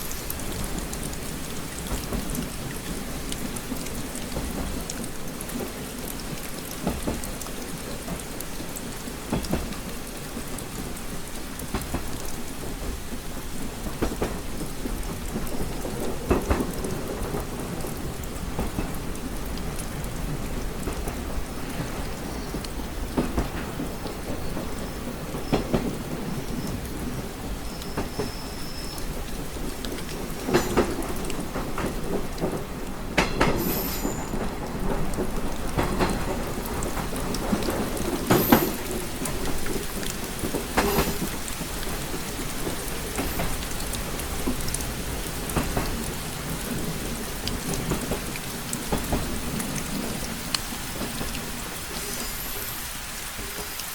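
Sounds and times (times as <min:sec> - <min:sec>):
rain tapping on a window: 0:00.0 - 0:53.9.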